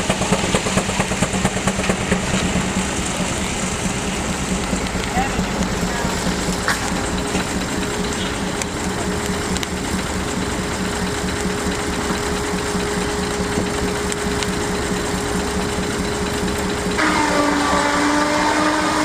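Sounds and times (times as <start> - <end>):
steam traction engine running: 0.0 - 19.0.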